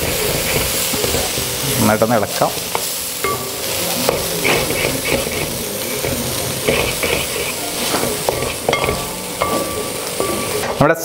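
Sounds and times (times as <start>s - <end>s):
spatula scraping frying food: 0.0s - 10.6s.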